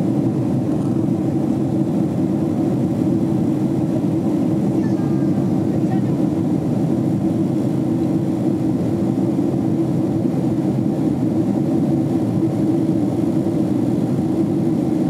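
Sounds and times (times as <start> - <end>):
jet engines and airflow rumble: 0.0 - 15.0.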